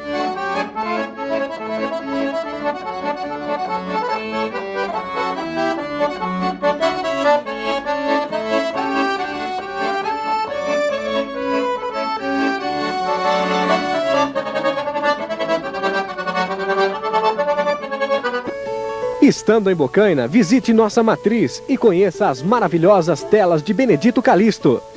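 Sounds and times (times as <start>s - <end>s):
lively accordion music: 0.0s - 24.9s.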